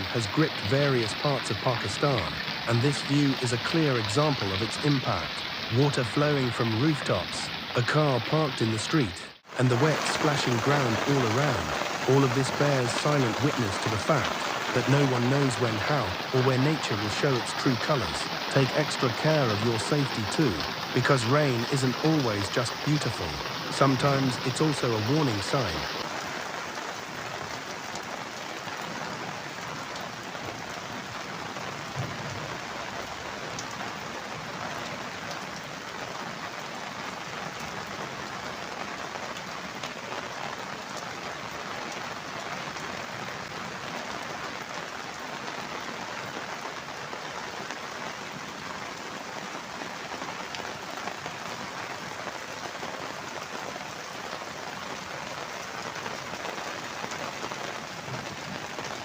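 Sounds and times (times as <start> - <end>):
heavy rain splashing on street: 0.0 - 59.0
water pouring off rooftops: 0.0 - 59.0.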